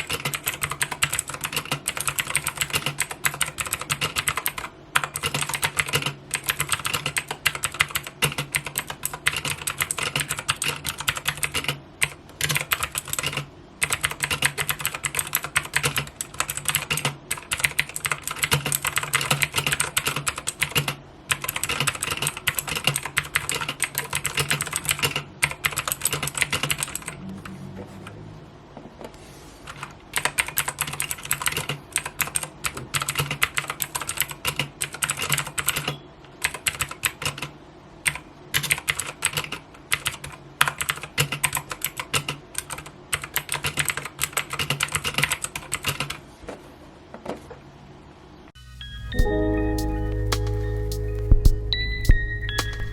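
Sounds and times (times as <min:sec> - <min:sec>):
fast typing on clicky keyboard: 0:00.0 - 0:27.2, 0:29.7 - 0:46.2.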